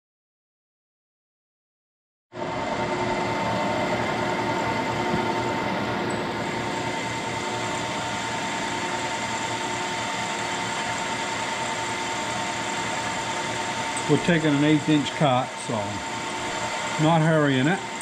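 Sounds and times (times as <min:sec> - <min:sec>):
milling machine hum with whine: 0:02.4 - 0:18.0.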